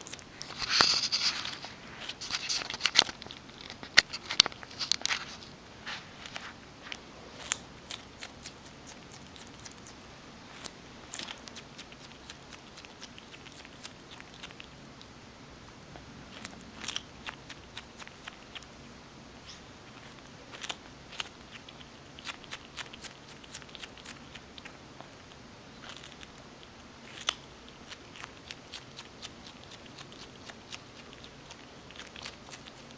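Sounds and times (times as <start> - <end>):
animal chewing food: 0.0 - 32.9.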